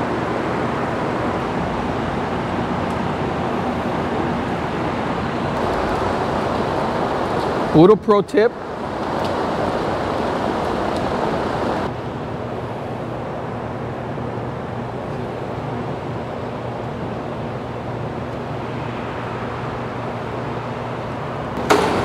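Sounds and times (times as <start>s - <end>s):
large fan rushing hum: 0.0s - 22.0s.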